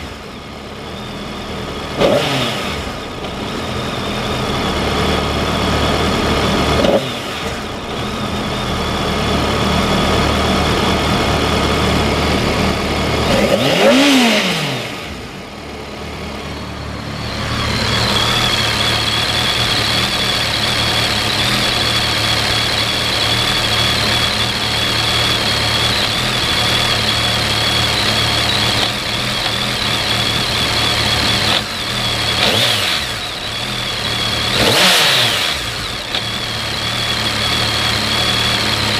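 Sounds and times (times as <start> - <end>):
motorcycle engine idling and revving: 0.0 - 38.9
steady high whine: 2.6 - 38.9.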